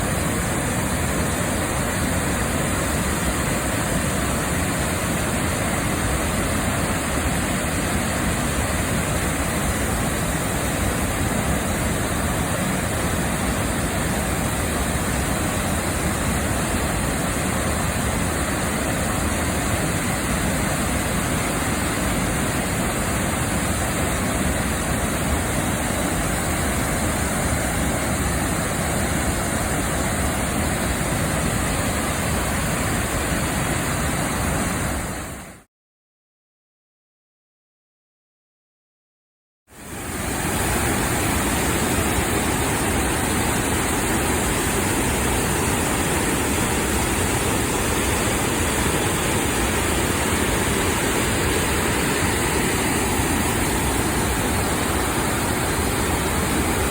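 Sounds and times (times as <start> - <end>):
waterfall roaring: 0.0 - 35.6, 39.7 - 56.9.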